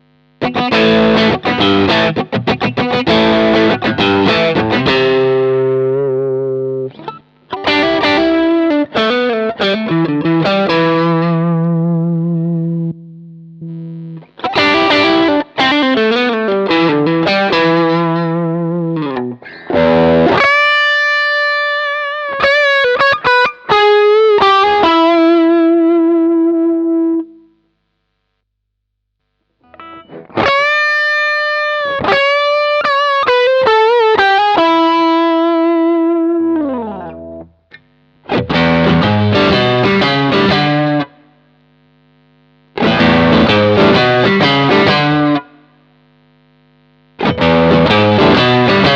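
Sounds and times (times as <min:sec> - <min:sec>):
distorted electric guitar: 0:00.0 - 0:28.4, 0:29.2 - 0:48.9.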